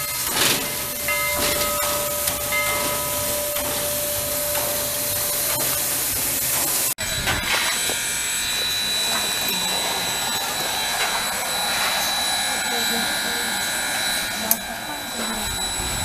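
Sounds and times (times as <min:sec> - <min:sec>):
mechanical noise with high whine: 0:00.0 - 0:16.0
steam locomotive hissing: 0:00.0 - 0:16.0.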